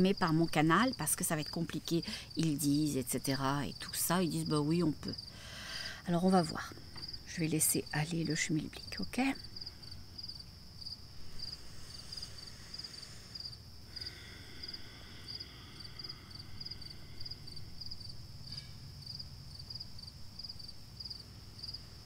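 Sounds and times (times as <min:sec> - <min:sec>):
crickets chirping: 0:00.0 - 0:22.0
faint low rumble: 0:00.0 - 0:22.0.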